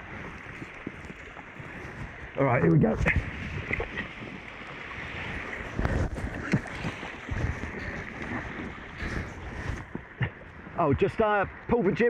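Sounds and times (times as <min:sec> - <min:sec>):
water rushing past hulls: 0:00.0 - 0:12.0
wind buffeting microphone: 0:00.0 - 0:12.0.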